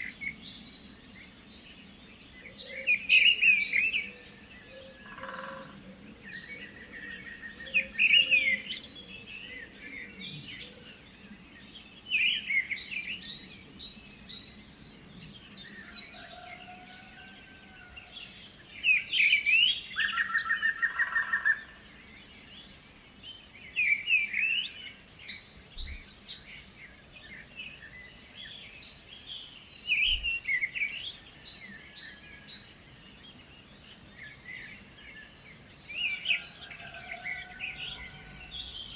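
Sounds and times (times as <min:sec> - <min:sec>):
bird song phrase: 0:00.0 - 0:38.9
songbirds singing: 0:00.0 - 0:38.9.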